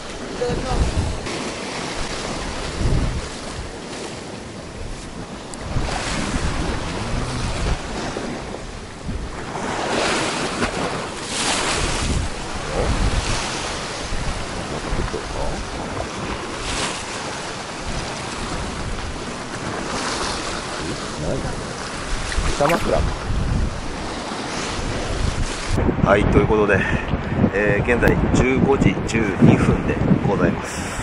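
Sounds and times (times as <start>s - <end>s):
waves breaking on rocks: 0.0s - 25.8s
wind buffeting microphone: 0.0s - 31.0s.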